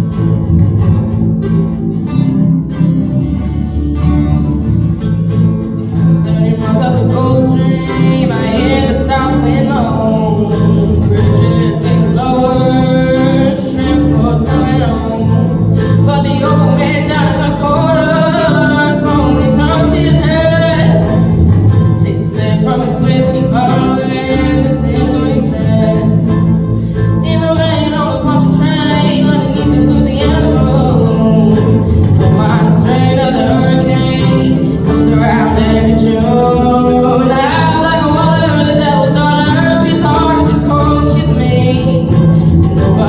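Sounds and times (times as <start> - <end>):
bass line: 0.0 - 43.0
guitar melody: 0.0 - 43.0.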